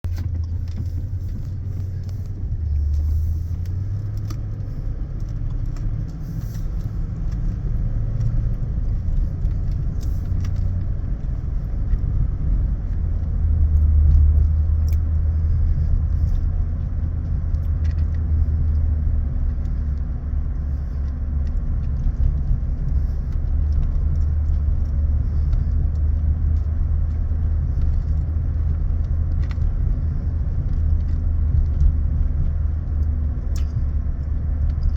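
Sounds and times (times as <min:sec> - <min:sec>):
low rumble of road vehicles: 0:00.0 - 0:34.9.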